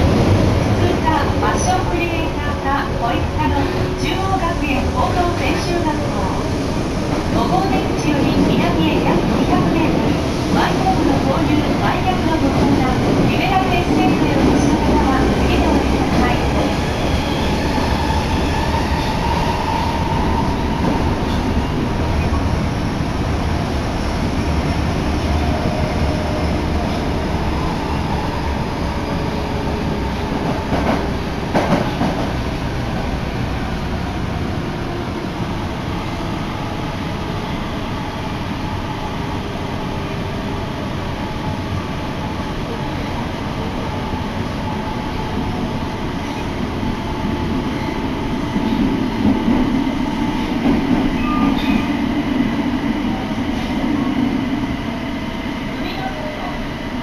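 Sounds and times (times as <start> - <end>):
subway train wheels and motors rumbling: 0.0 - 57.0.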